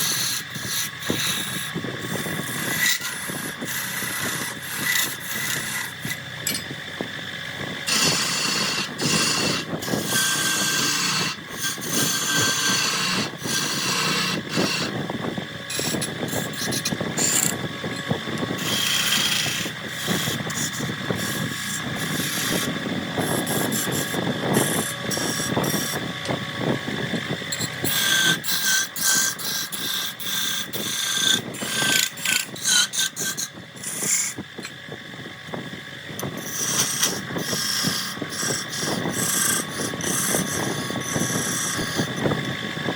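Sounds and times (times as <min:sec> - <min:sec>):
turning tool scraping wood: 0:00.0 - 0:07.0, 0:07.8 - 0:34.8, 0:36.2 - 0:42.9
wood lathe whine: 0:00.0 - 0:42.9.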